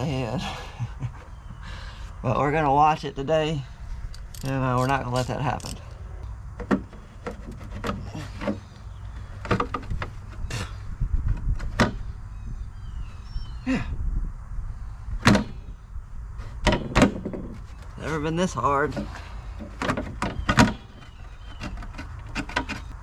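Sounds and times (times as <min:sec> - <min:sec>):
steady low rumble: 0:00.0 - 0:19.8.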